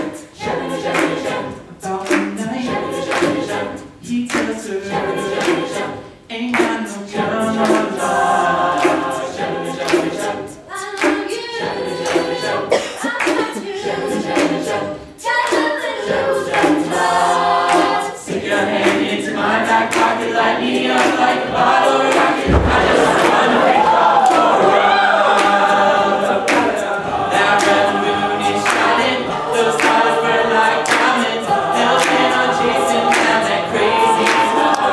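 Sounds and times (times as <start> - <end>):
a cappella group singing: 0.0 - 34.9
percussive beat: 6.6 - 34.9.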